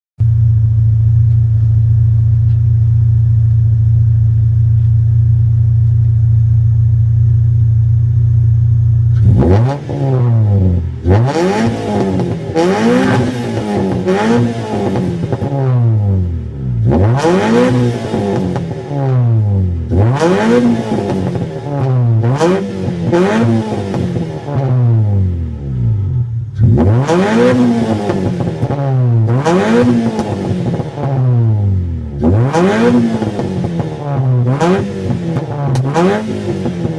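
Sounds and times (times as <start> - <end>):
engine exhaust idling and revving: 0.2 - 36.9.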